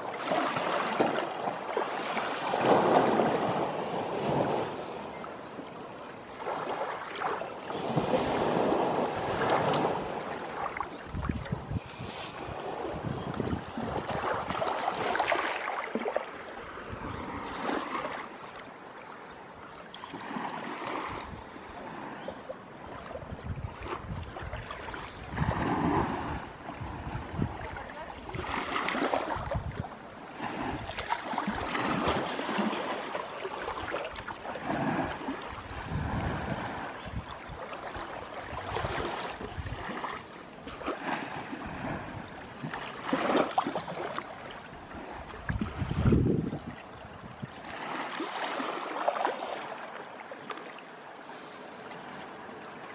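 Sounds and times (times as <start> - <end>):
small waves lapping on shore: 0.0 - 52.9.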